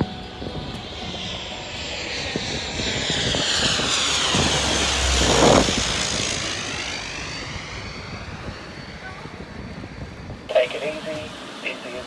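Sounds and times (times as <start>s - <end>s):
engine and propeller drone: 0.0s - 12.0s
turboprop plane passing overhead: 0.0s - 12.0s.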